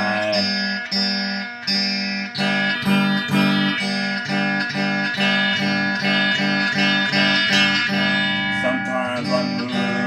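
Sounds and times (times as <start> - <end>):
guitar strumming chords: 0.0 - 10.0.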